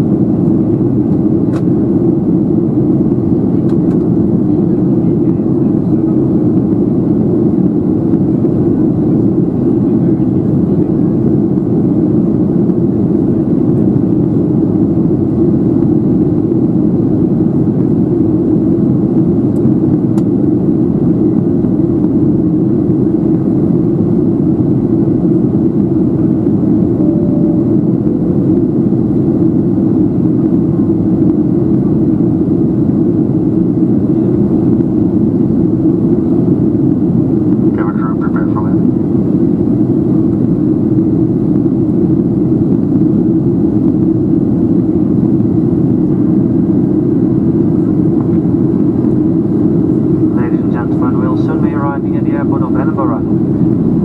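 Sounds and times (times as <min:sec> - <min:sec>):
airflow over fuselage: 0:00.0 - 0:54.0
jet engine cabin rumble: 0:00.0 - 0:54.0.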